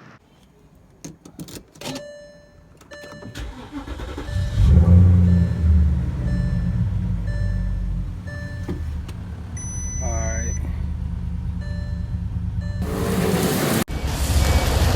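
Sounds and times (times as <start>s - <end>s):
car engine starting and idling: 2.7s - 14.9s.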